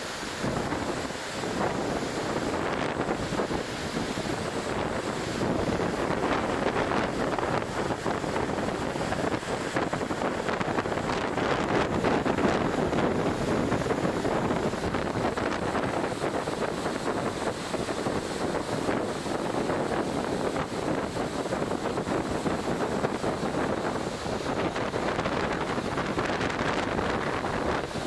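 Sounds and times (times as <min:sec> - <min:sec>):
rough sea wash: 0:00.0 - 0:28.0
wind buffeting microphone: 0:00.0 - 0:28.0.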